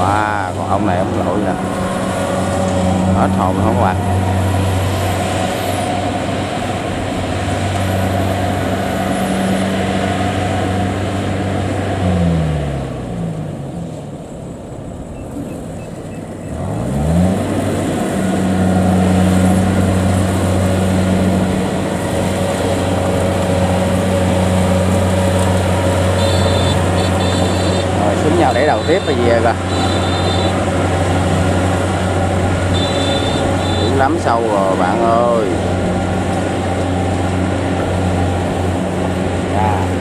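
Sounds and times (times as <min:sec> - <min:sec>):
diesel engine running hard: 0:00.0 - 0:40.0.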